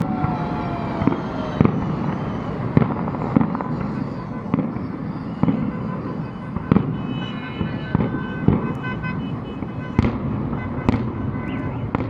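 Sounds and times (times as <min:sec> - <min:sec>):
rumbling firework bursts: 0:00.0 - 0:12.0
firework bangs: 0:01.0 - 0:12.0.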